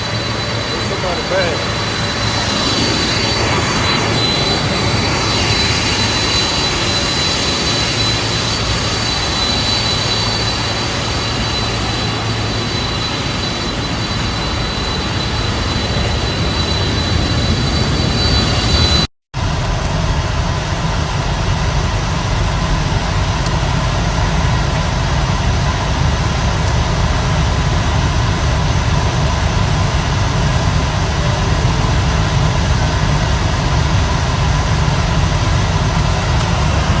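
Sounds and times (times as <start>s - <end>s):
engine low rumble: 0.0s - 37.0s
faint steady whine: 0.0s - 37.0s.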